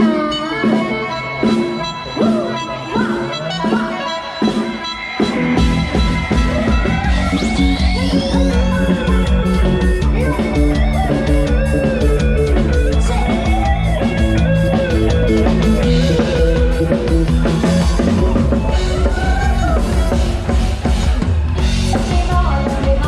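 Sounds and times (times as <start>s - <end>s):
drum kit beat: 0.0s - 23.0s
folk-pop band instrumental: 0.0s - 23.0s.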